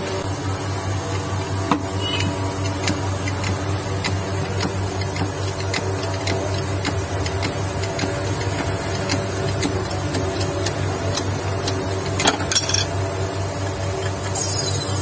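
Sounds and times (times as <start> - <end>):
low hum with light ticks: 1.0 - 14.4.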